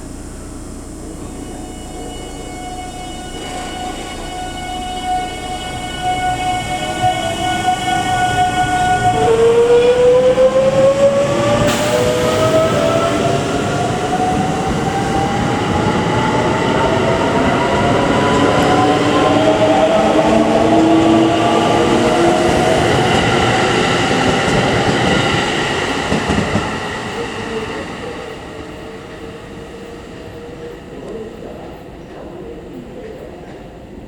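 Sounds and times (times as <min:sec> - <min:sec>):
electric train motor whine: 0:00.0 - 0:30.9
wheel and rail rumble: 0:00.0 - 0:34.0.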